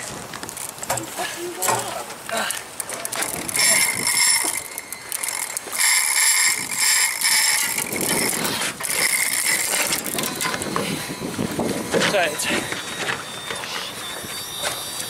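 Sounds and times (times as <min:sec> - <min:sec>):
fishing reel whirring and ratcheting: 0:00.0 - 0:15.0.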